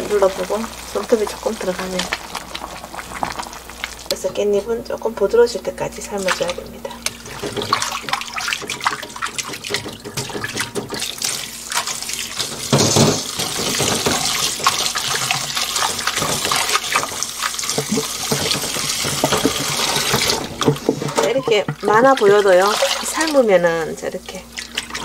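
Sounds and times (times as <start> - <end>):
kitchen tap running: 0.0 - 25.0.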